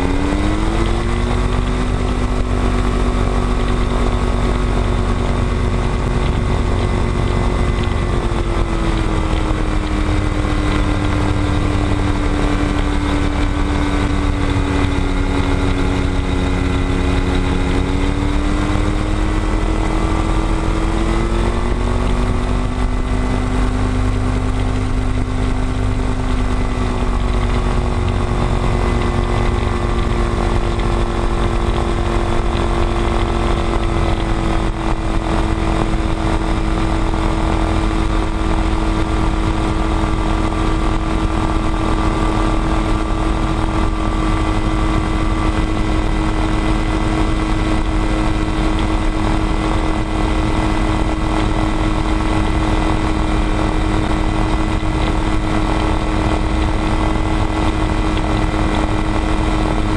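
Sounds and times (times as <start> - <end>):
aircraft engine and propeller: 0.0 - 59.9.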